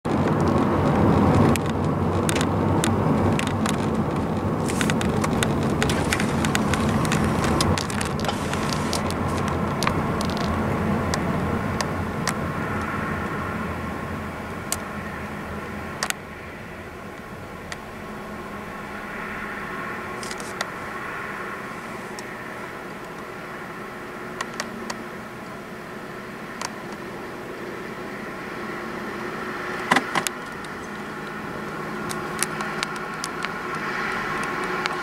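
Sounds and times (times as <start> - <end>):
tyre and engine rumble: 0.0 - 35.0.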